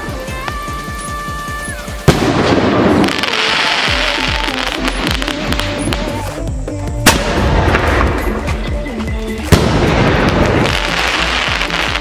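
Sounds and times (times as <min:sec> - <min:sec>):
firework spraying hiss: 0:00.0 - 0:08.6, 0:09.5 - 0:12.0
background music with beat: 0:00.0 - 0:12.0
firework crack: 0:00.0 - 0:12.0.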